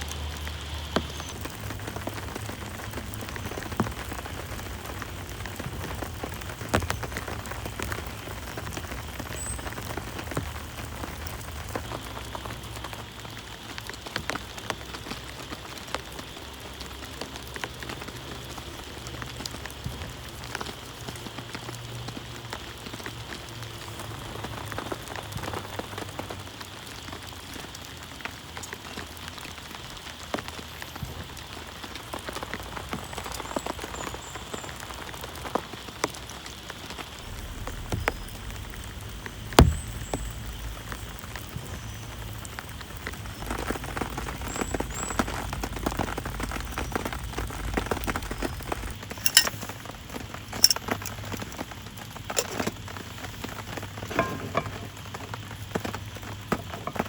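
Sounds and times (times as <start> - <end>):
heavy rain on a surface: 0.0 - 57.0.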